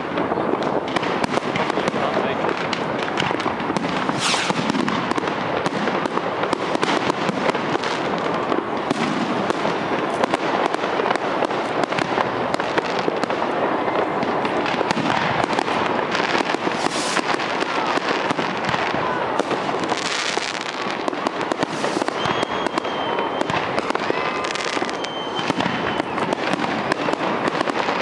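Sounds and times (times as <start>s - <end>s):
fireworks cracking and banging: 0.0s - 28.0s.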